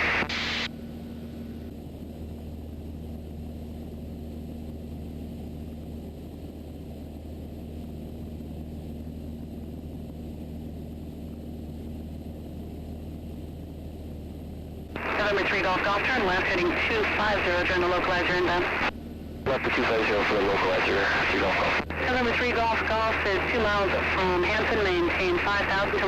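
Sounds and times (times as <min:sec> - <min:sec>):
light airplane engine drone: 0:00.0 - 0:26.0.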